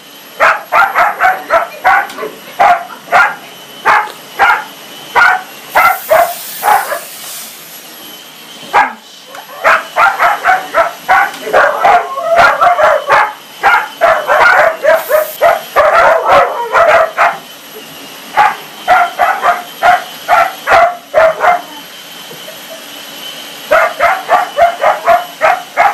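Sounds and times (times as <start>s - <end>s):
dog barking: 0.4s - 7.1s, 8.7s - 17.4s, 18.4s - 21.8s, 23.7s - 25.9s.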